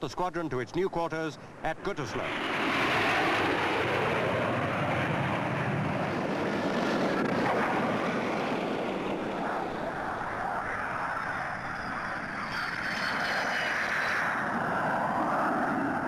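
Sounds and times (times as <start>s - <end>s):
jet engines roaring: 1.1s - 16.0s.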